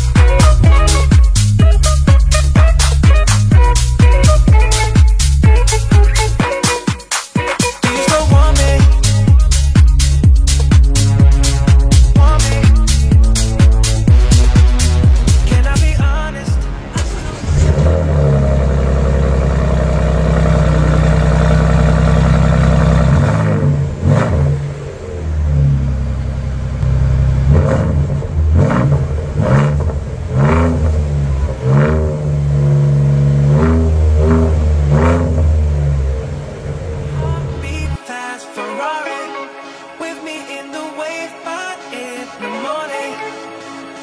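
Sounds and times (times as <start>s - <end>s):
car engine revving: 0.0s - 6.4s, 8.1s - 38.0s.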